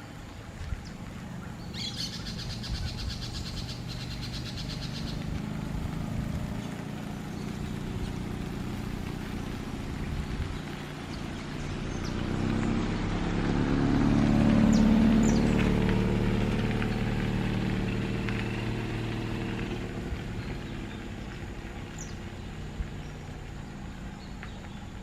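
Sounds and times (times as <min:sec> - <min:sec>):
vehicle engine passing by: 0:00.0 - 0:25.0.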